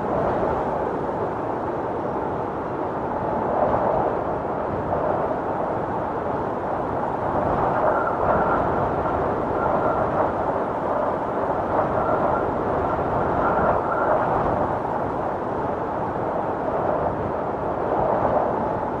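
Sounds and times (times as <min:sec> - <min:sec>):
storm wind blowing: 0:00.0 - 0:19.0.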